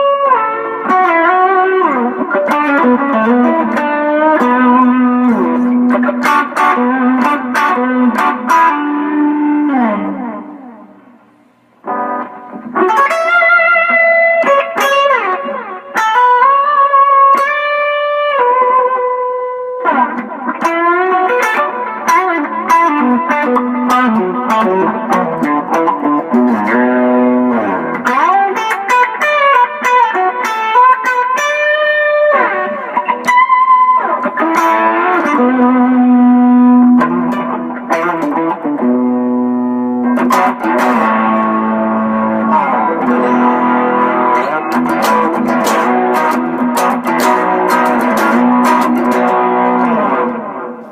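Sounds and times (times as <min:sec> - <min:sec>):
overdriven electric guitar: 0:00.0 - 0:50.9.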